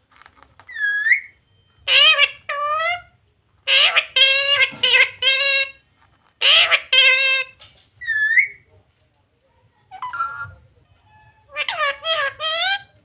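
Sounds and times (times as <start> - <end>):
parrot high-pitched calls: 0.7 - 5.8, 6.4 - 8.6, 9.9 - 13.0.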